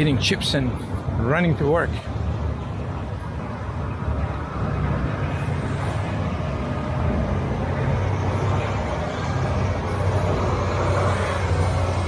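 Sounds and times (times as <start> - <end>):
passing vehicle engines rumbling: 0.0 - 12.0.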